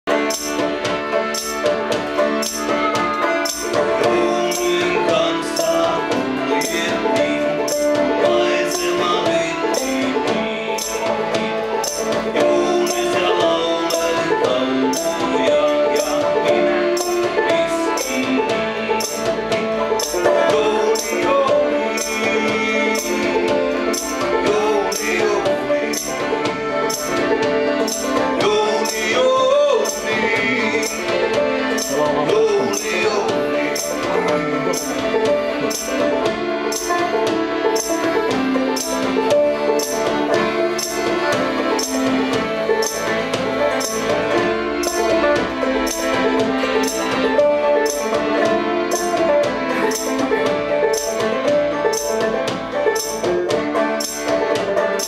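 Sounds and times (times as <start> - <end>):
accordion: 0.0 - 55.0
banjo: 0.0 - 55.0
jingling tambourine beat: 0.0 - 55.0.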